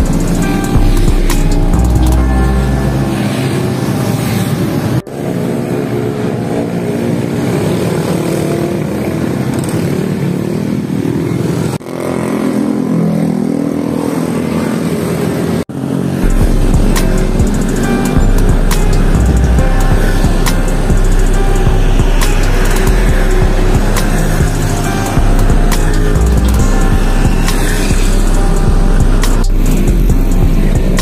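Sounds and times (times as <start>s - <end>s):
motorcycles passing with engines revving: 0.0s - 31.0s.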